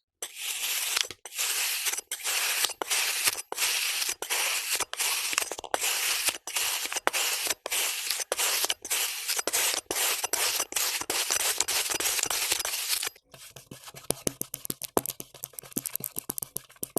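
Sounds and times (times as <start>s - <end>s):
blade slicing kinetic sand: 0.2s - 16.1s.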